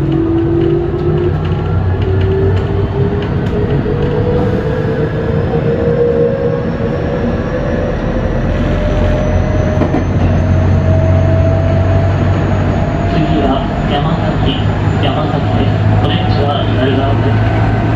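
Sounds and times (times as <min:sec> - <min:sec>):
wheels rumbling on rail: 0:00.0 - 0:17.9.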